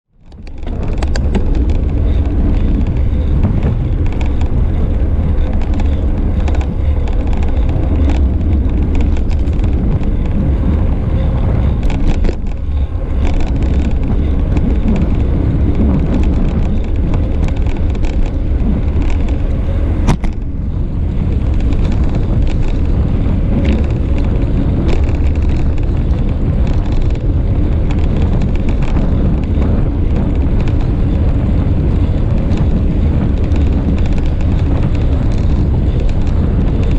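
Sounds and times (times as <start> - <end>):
road and traffic noise: 0.1 - 36.9
wind buffeting microphone: 0.1 - 36.9
clicks and rattles: 0.2 - 36.9.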